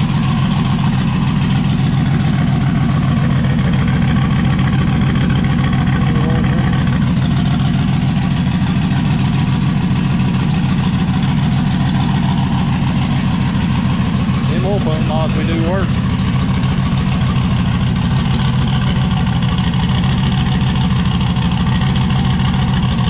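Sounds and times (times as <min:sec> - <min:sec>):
pickup truck engine idling: 0:00.0 - 0:23.0.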